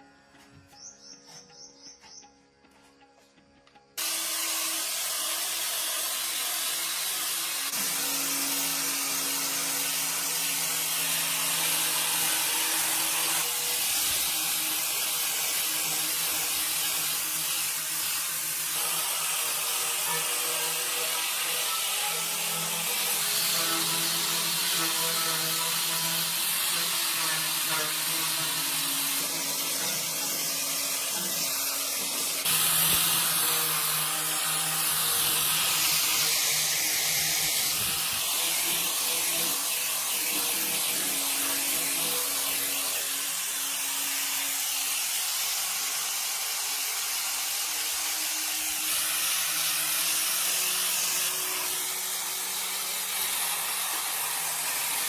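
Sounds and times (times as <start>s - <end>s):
motor-driven tool running: 4.0s - 55.0s.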